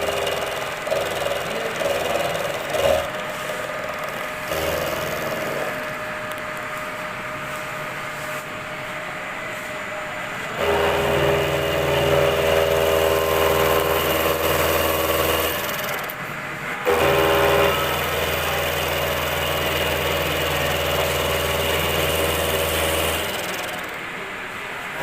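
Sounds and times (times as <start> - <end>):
milling machine humming: 0.0 - 25.0.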